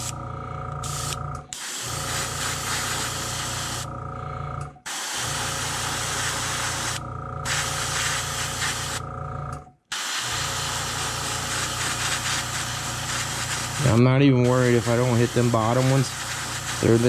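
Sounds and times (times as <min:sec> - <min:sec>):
air compressor hum: 0:00.0 - 0:17.0
airbrush hissing: 0:00.8 - 0:03.9, 0:04.9 - 0:09.0, 0:09.9 - 0:17.0.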